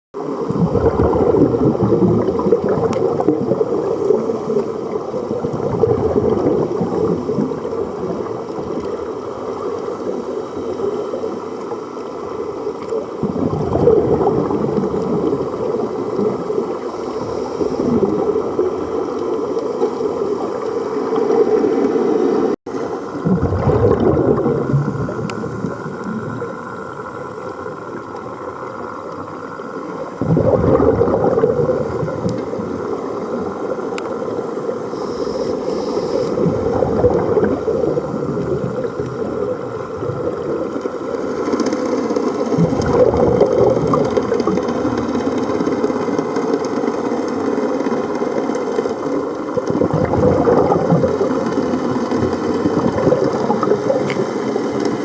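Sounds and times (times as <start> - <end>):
underwater gurgling water: 0.2 - 55.0.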